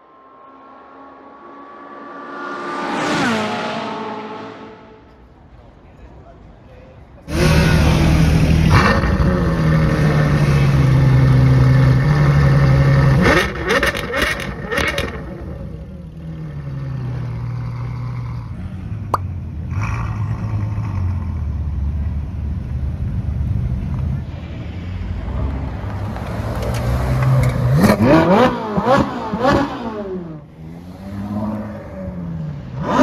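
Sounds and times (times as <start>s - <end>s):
car engine revving: 0.0s - 5.2s, 7.3s - 21.5s, 25.9s - 33.0s.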